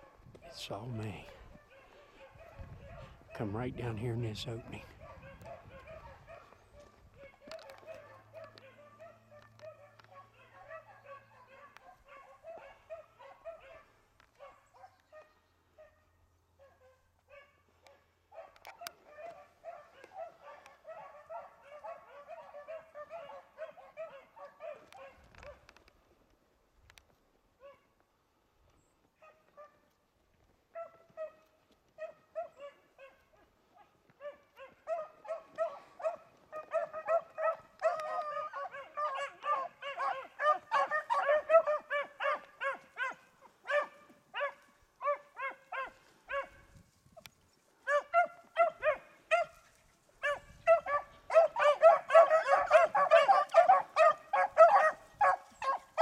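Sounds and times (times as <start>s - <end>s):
hounds baying: 0.0s - 25.8s, 30.7s - 56.0s.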